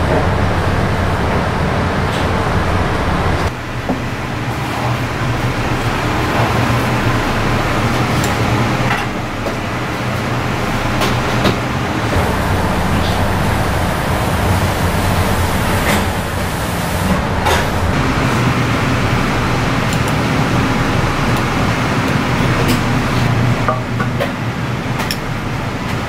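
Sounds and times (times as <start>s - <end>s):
constant low hum: 0.0s - 26.0s
steady rushing noise: 0.0s - 26.0s.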